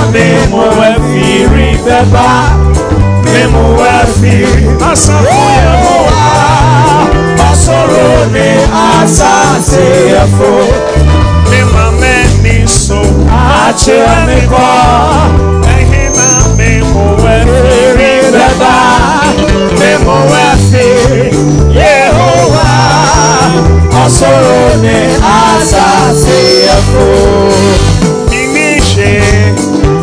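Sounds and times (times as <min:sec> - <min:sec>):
person singing: 0:00.0 - 0:29.8
gospel band playing: 0:00.0 - 0:30.0.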